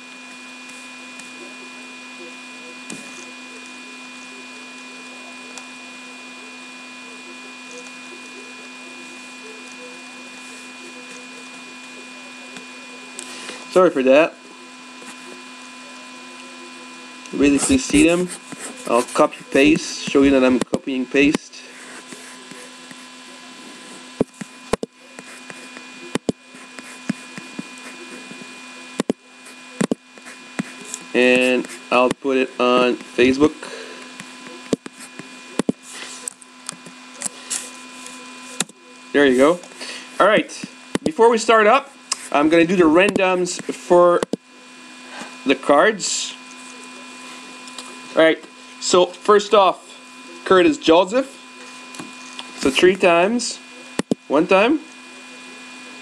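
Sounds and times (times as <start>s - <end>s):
electrical hum and hiss: 0.0s - 56.0s.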